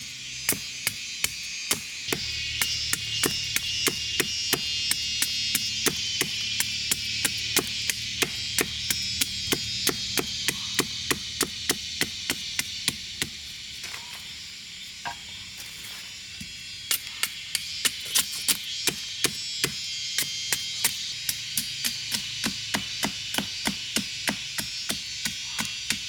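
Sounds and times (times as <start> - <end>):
tool striking wood: 0.5 - 13.4, 17.2 - 26.0.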